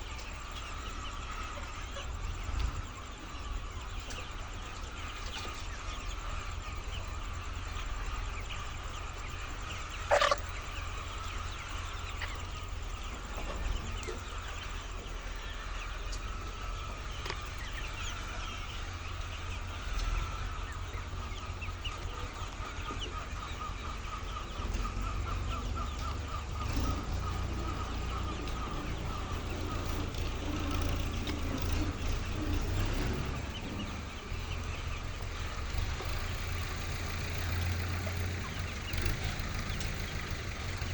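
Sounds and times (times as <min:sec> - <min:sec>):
hens clucking: 0:00.0 - 0:40.9
steady low hum: 0:00.0 - 0:40.9.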